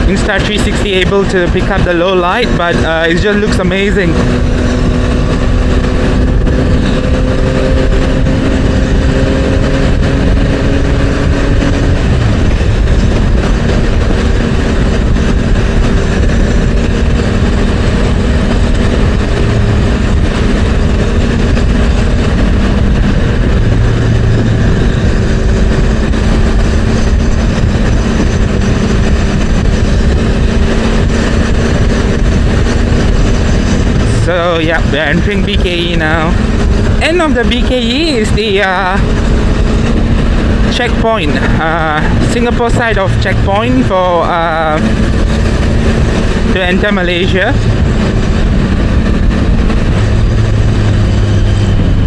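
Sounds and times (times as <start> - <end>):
motorcycle engine cruising: 0.0 - 52.0
wind noise on microphone: 0.0 - 52.0.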